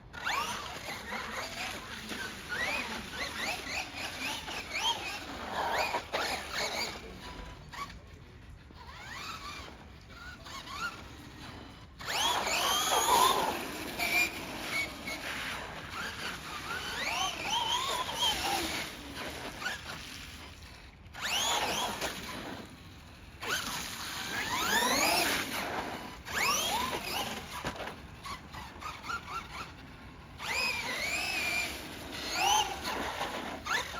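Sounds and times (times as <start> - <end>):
electric motor whining: 0.0 - 33.9.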